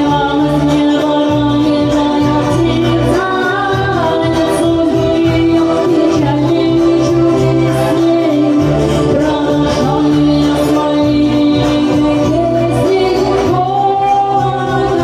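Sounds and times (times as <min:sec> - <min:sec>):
pop karaoke backing track: 0:00.0 - 0:15.0.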